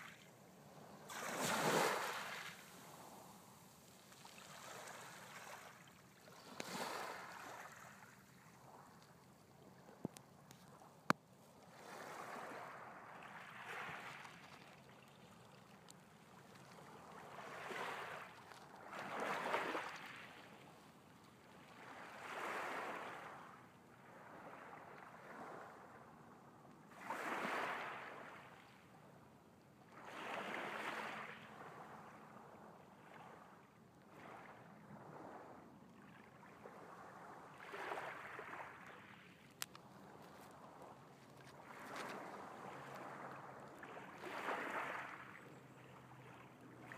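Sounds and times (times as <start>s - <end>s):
small waves lapping on pebbles: 0.0s - 25.8s, 26.9s - 28.8s, 29.9s - 32.1s, 33.0s - 35.4s, 36.0s - 46.9s.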